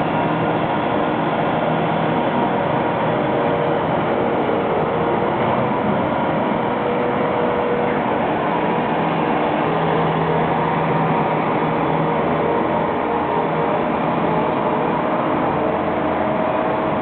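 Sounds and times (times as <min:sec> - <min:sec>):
tractor engine hum: 0:00.0 - 0:17.0.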